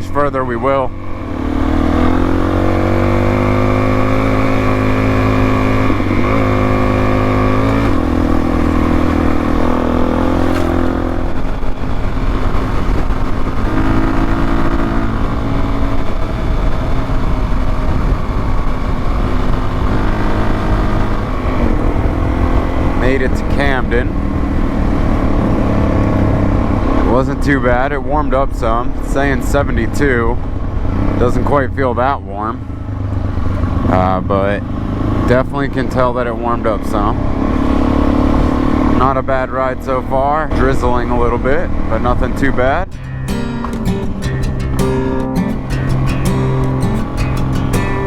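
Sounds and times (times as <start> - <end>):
motorcycle engine accelerating: 0.0 - 48.0
wind and road noise: 0.0 - 48.0.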